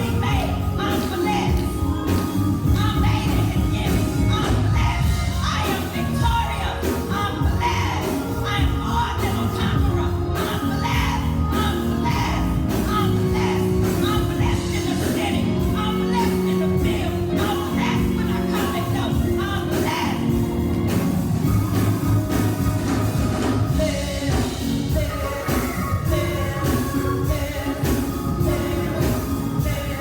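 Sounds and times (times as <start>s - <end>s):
gospel church band music: 0.0s - 30.0s
voices singing along: 0.0s - 30.0s.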